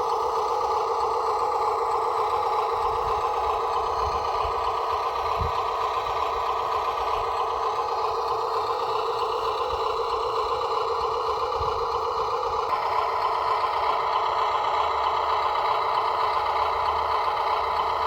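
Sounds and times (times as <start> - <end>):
clatter: 0.0 - 18.0
electric motors whining: 0.0 - 18.0.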